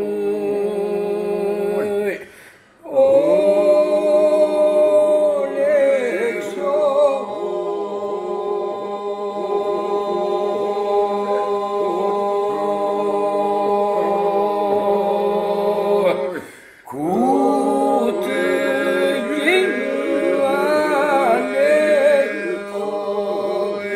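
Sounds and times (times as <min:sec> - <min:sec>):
group singing a drone: 0:00.0 - 0:23.9.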